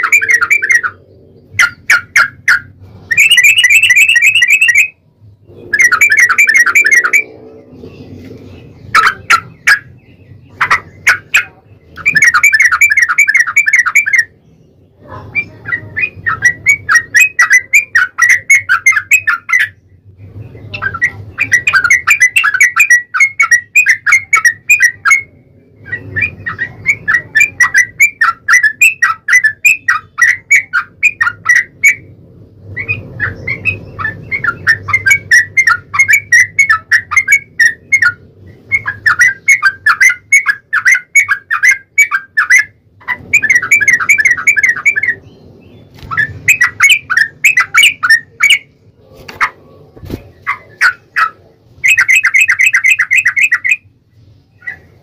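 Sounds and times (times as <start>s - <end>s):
bulbuls chattering song: 0.0s - 55.0s.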